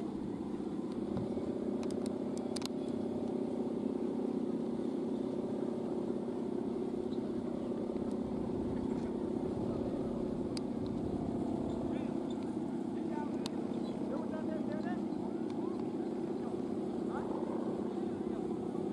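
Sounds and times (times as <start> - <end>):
kite hummers droning: 0.0 - 18.9.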